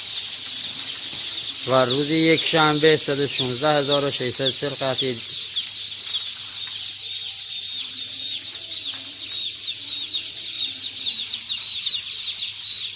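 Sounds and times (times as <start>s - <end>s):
baby chicks peeping: 0.0s - 12.9s.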